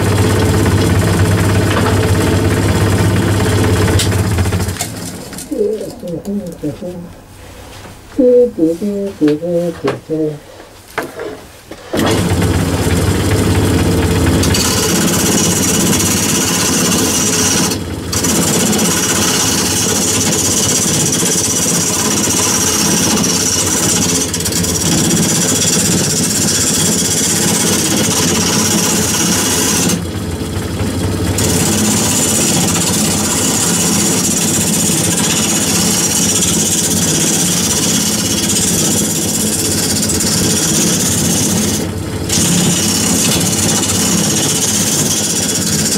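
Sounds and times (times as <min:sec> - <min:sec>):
wood lathe gouge cutting: 0:00.0 - 0:06.6, 0:11.9 - 0:45.9.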